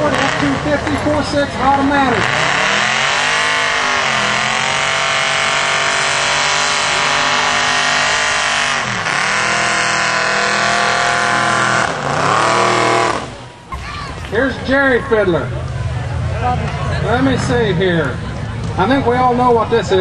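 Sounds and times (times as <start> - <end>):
tires spinning: 0.0 - 20.0
truck engine revving: 0.0 - 20.0.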